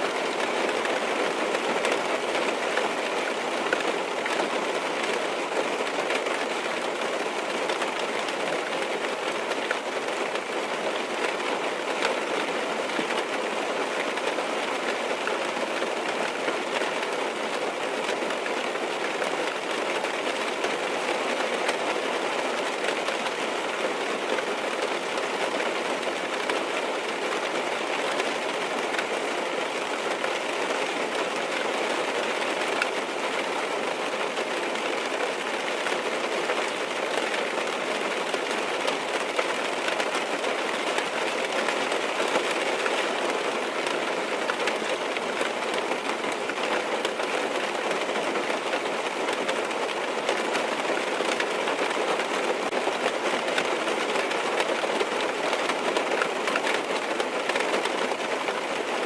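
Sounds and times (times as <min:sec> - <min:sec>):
rain on a car roof: 0:00.0 - 0:59.0.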